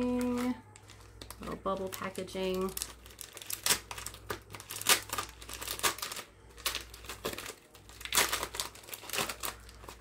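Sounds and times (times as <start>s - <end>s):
bubble packaging crackling: 0.0s - 10.0s.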